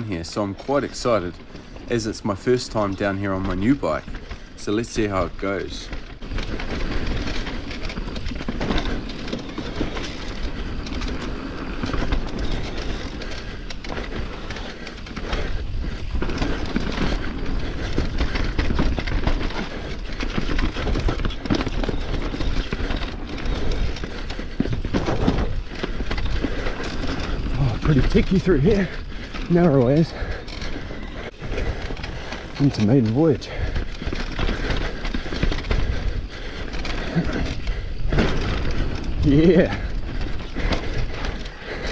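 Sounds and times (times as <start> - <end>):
bike clattering and rattling: 0.0 - 41.9
tyres rolling on dirt: 0.0 - 41.9.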